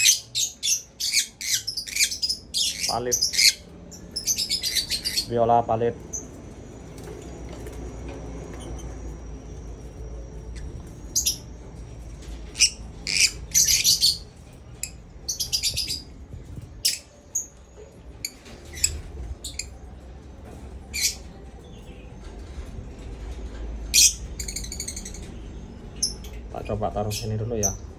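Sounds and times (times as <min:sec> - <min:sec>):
lovebirds chirping and squawking: 0:00.0 - 0:27.9.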